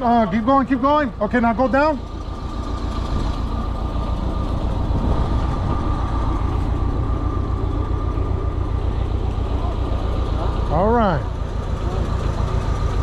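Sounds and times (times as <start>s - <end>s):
forklift engine running: 0.0s - 13.0s
steady high whine: 0.3s - 13.0s.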